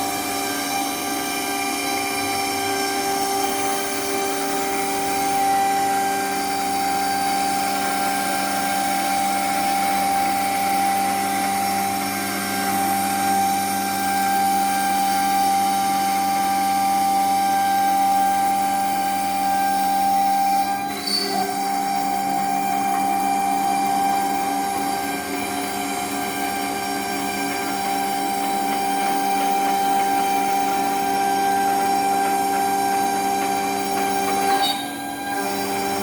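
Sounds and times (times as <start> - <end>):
router spindle whining: 0.0 - 36.0.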